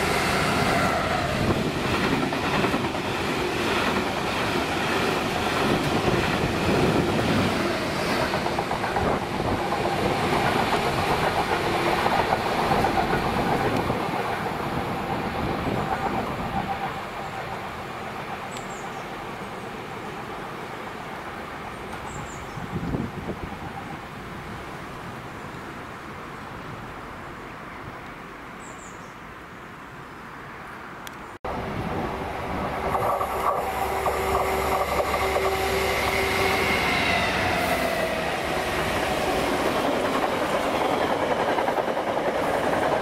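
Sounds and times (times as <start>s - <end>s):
diesel locomotive engine: 0.0s - 24.0s, 31.5s - 43.0s
distant train: 0.0s - 27.6s, 31.0s - 43.0s.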